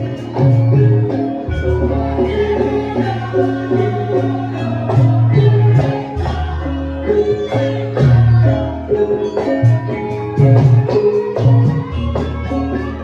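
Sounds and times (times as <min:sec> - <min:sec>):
gamelan ensemble music: 0:00.0 - 0:13.0.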